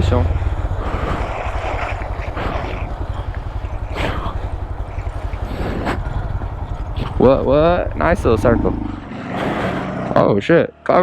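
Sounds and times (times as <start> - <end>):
mini bike engine rumbling: 0.0 - 10.4.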